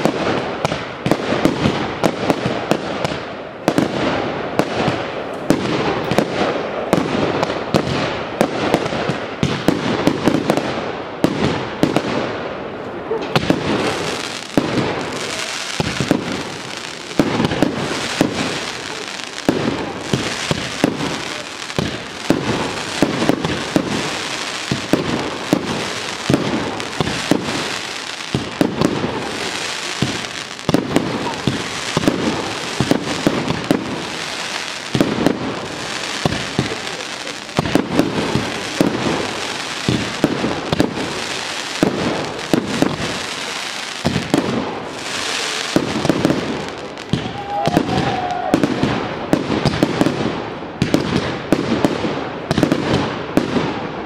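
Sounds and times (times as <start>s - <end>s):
continuous hiss: 0.0s - 54.0s
fireworks bursting: 0.0s - 54.0s.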